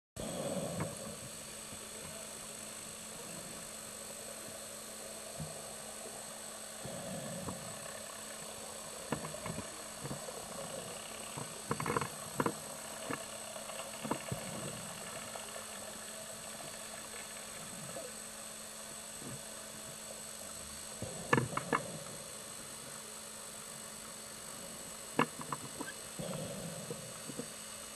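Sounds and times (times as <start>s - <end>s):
underwater camera hum: 0.2s - 27.9s.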